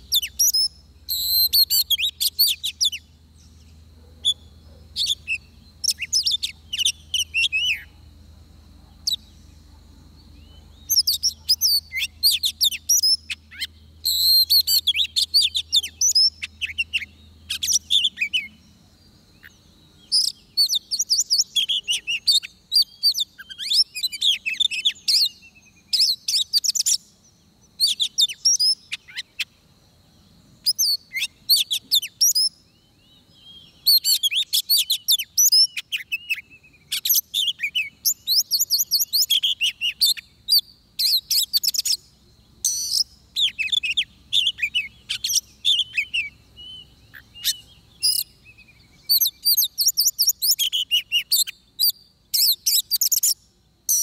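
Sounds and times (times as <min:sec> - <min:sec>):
bird singing whistled phrases: 0:00.0 - 0:08.0, 0:10.3 - 0:18.6, 0:19.4 - 0:27.1, 0:27.8 - 0:29.5, 0:30.6 - 0:54.0.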